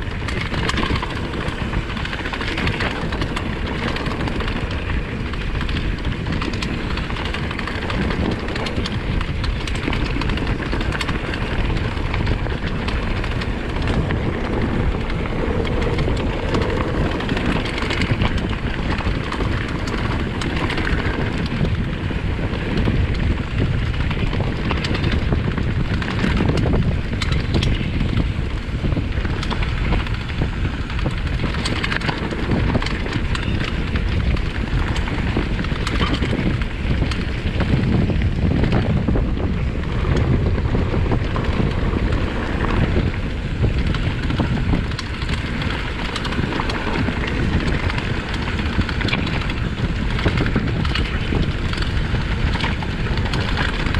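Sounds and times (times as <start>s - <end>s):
bike rattling and knocking: 0.0s - 53.9s
bike tyres over rocks: 0.0s - 53.9s
wind on microphone: 0.0s - 53.9s.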